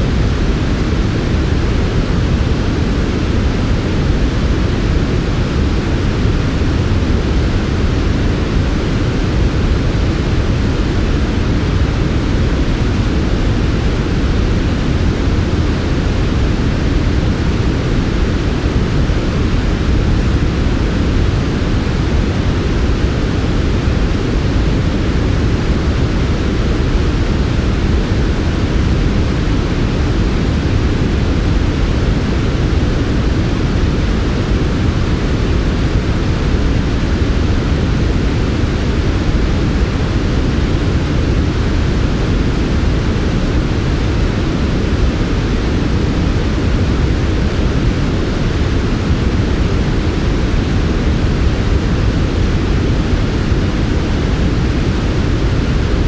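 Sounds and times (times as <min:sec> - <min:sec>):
low white noise: 0:00.0 - 0:56.0.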